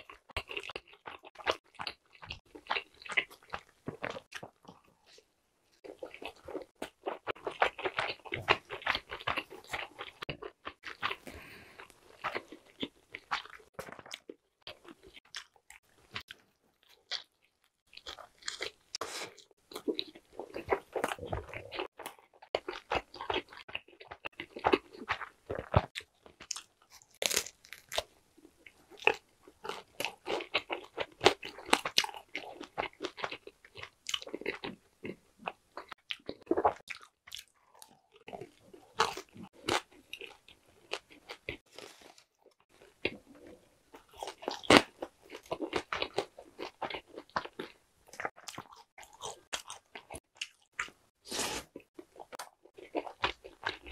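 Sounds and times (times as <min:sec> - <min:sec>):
crunching and chewing pizza crust: 0:00.0 - 0:53.9.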